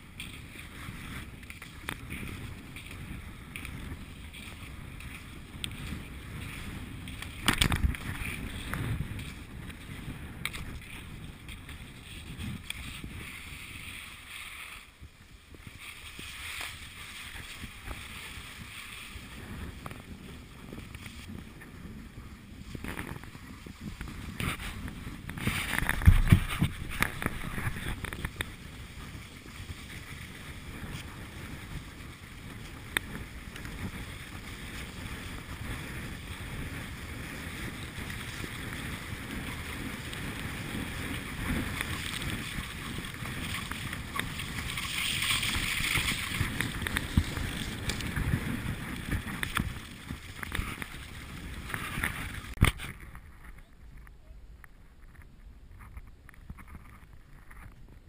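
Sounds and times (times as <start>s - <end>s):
skis swishing over snow: 0.0s - 53.1s
wind rumbling on microphone: 0.0s - 58.0s.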